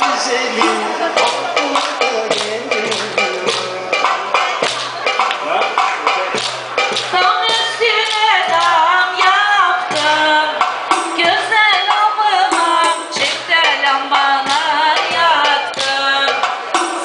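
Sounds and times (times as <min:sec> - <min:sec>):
clicking percussion beat: 0:00.0 - 0:17.0
keyboard folk dance melody: 0:00.0 - 0:17.0.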